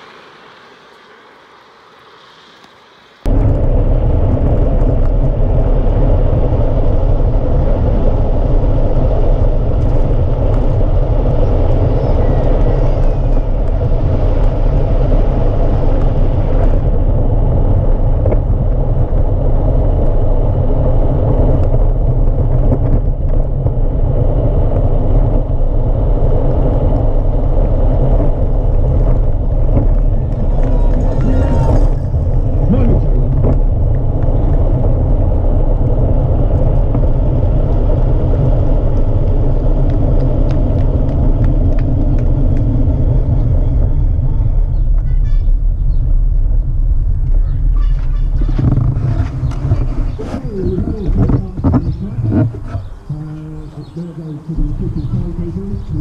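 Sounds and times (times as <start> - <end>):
kart rolling on tarmac rumble: 0.0 - 56.0.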